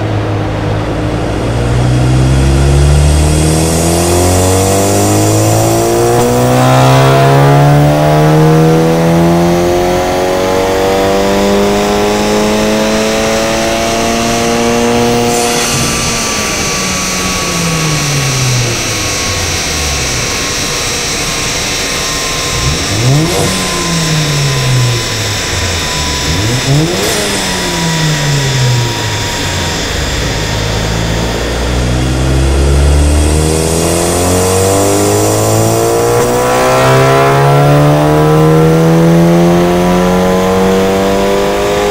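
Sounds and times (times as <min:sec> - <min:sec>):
car engine revving on a dyno: 0:00.0 - 0:41.9
falling whine: 0:00.0 - 0:41.9.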